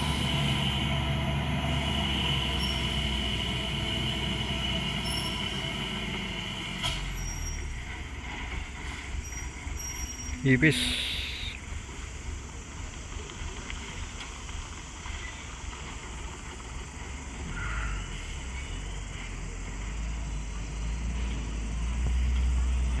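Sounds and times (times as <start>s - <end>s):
heavy truck engine rumbling: 0.0s - 23.0s.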